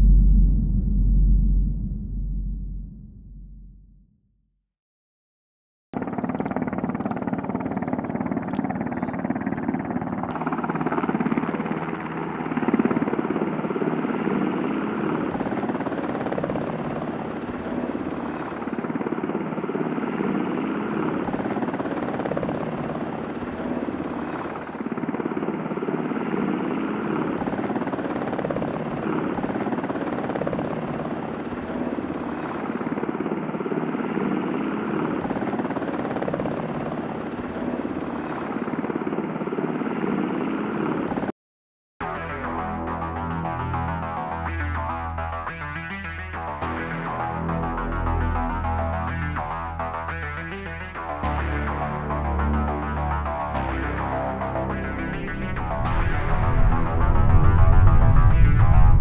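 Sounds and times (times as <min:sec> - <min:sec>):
helicopter rotor and engines: 0:06.0 - 0:41.4, 0:42.8 - 0:59.0.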